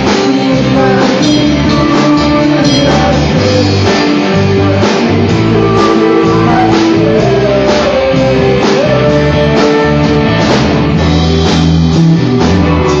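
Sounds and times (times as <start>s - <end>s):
bass guitar: 0.0s - 13.0s
drum kit beat: 0.0s - 13.0s
electric guitar: 0.0s - 13.0s.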